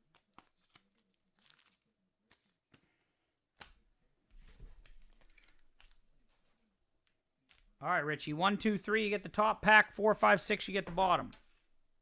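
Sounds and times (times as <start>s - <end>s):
faint rustling of card packs: 0.0s - 7.8s, 8.7s - 12.0s.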